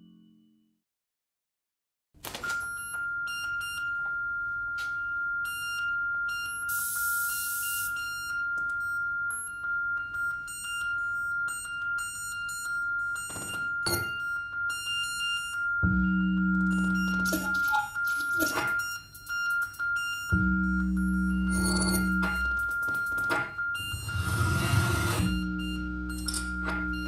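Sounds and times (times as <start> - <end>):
high sine-like tone: 2.6 - 27.0
flickering high beeps and clicks: 4.8 - 27.0.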